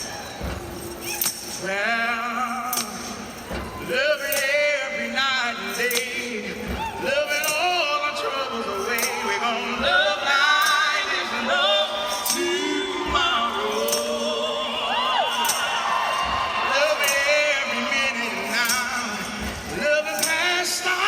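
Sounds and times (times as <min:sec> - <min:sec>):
man and woman singing duet: 0:01.0 - 0:21.0.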